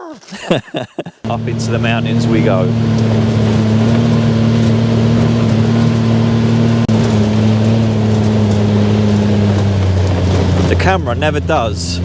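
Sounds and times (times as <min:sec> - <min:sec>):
buggy engine running: 0:01.2 - 0:12.0.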